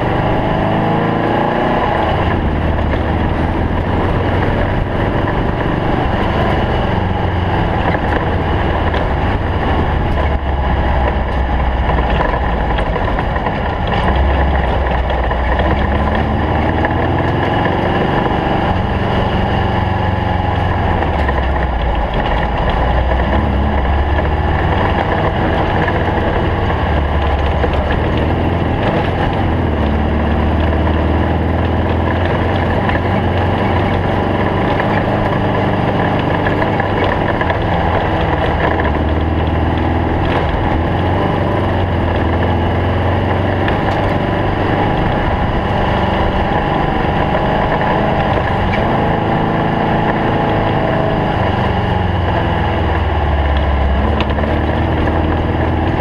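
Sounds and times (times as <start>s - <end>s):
race car engine revving: 0.0s - 56.0s
steady rushing noise: 0.0s - 56.0s.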